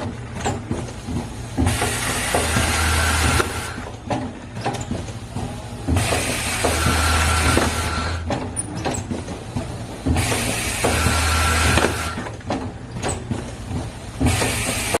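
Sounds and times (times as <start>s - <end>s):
mechanical clicks and knocks: 0.0s - 14.9s.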